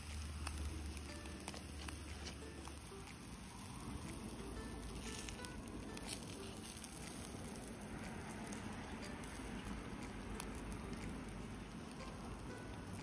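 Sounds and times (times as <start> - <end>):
fire crackles and pops: 0.0 - 13.0
meat sizzling on a grill: 0.0 - 13.0.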